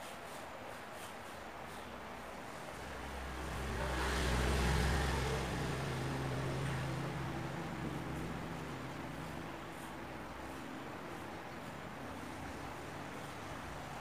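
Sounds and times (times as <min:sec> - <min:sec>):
vehicle engine humming: 0:02.4 - 0:14.0.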